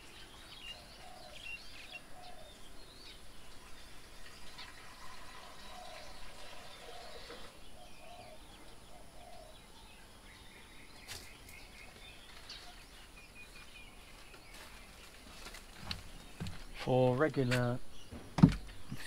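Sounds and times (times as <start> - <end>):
faint wild bird calls: 0.0 - 19.0
outdoor background noise: 0.0 - 19.0.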